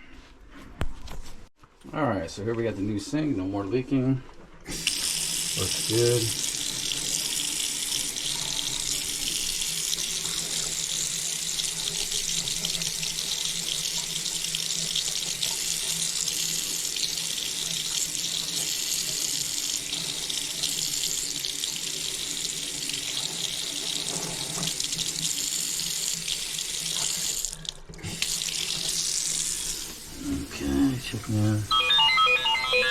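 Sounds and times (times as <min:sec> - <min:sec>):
tap water running into sink: 0:04.7 - 0:31.7.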